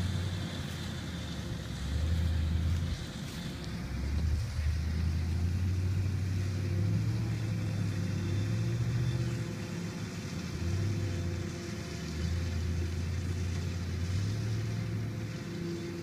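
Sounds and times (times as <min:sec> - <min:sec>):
farm machinery engine humming: 0:00.0 - 0:16.0.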